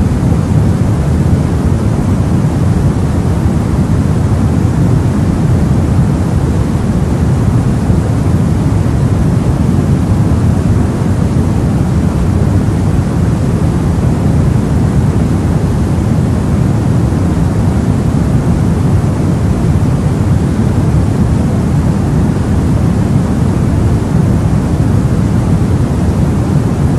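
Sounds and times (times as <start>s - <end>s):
low white noise hiss: 0.0s - 26.9s.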